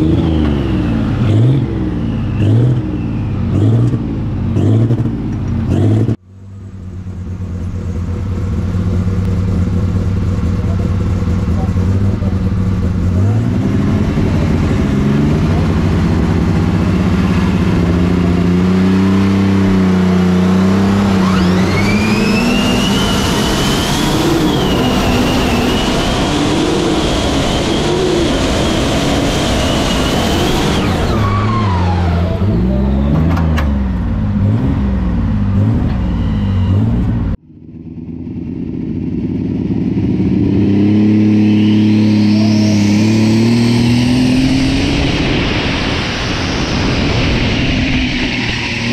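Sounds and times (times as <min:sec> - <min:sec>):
high whine: 0:06.6 - 0:37.7, 0:39.8 - 0:48.9.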